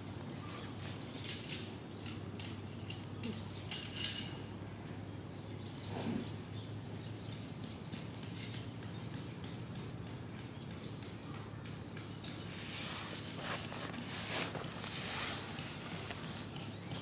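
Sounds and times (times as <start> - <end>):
small wood fire crackling: 0.0 - 17.0.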